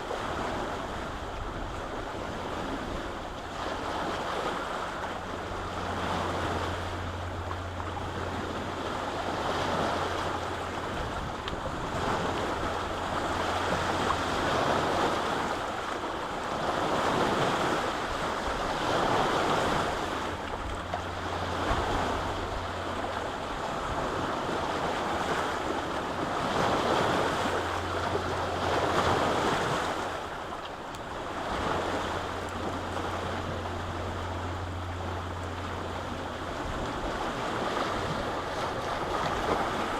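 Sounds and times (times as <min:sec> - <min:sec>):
lake waves washing onto shore: 0:00.0 - 0:39.9
low steady hum: 0:00.0 - 0:39.9.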